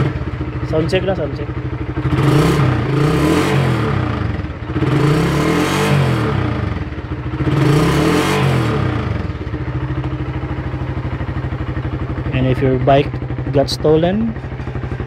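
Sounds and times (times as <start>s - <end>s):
engine idling: 0.0s - 5.5s, 6.1s - 15.0s
motorcycle engine revving: 0.0s - 15.0s.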